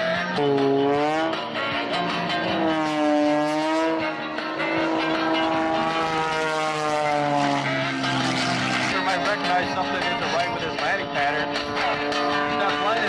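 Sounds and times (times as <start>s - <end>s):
propeller plane engine: 0.0s - 13.0s.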